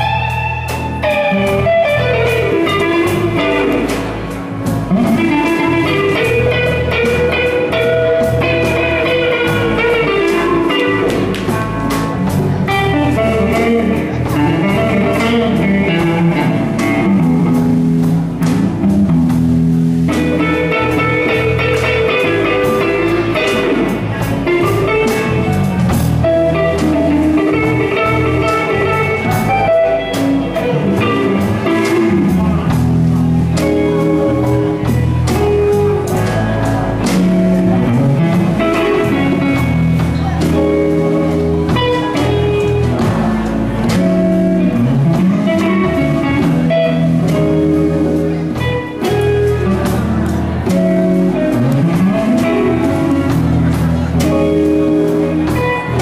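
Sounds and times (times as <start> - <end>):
blues band playing: 0.0 - 56.0.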